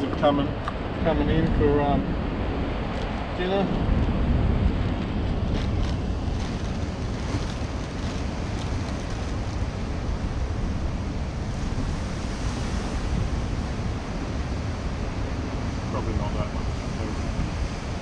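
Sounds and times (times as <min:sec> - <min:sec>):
wind buffeting microphone: 0:00.0 - 0:18.0
ocean surf washing against rocks: 0:00.4 - 0:18.0.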